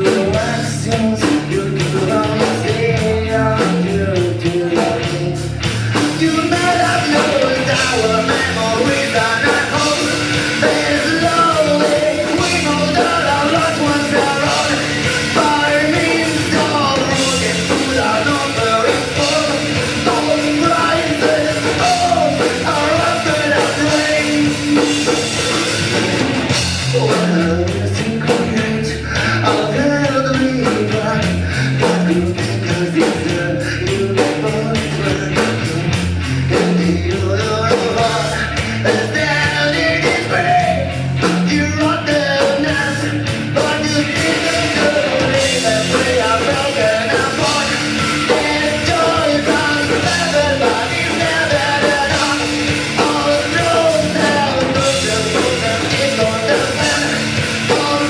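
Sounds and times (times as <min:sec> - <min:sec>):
fast drum beat: 0:00.0 - 0:58.0
live rock band playing: 0:00.0 - 0:58.0.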